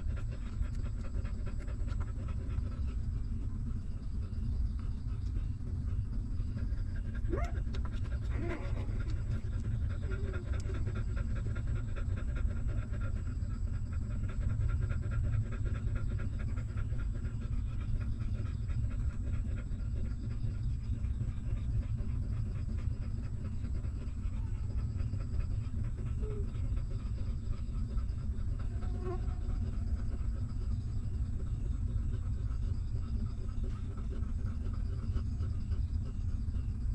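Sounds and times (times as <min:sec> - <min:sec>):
constant low rumble: 0:00.0 - 0:36.9
dog panting: 0:00.0 - 0:36.9.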